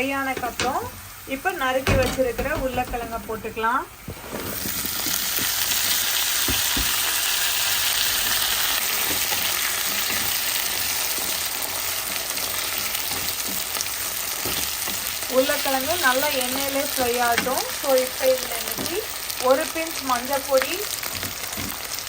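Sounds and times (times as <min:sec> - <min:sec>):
potatoes sizzling in hot oil: 0:00.0 - 0:22.0.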